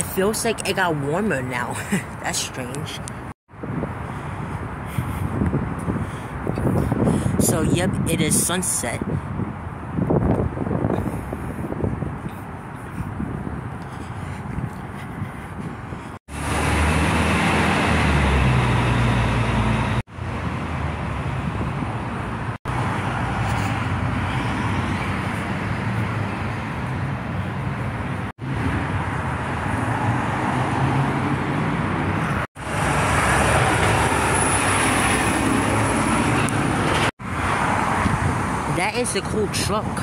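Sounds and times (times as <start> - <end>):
passing vehicles: 0.0 - 40.0.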